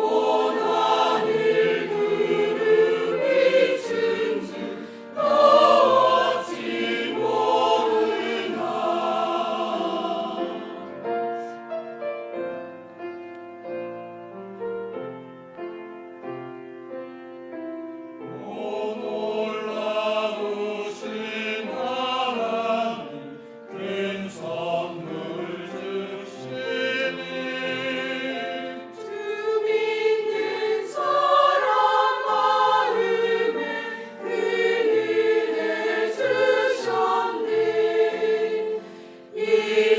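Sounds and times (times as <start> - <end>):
church choir singing: 0.0 - 12.8, 18.2 - 39.9.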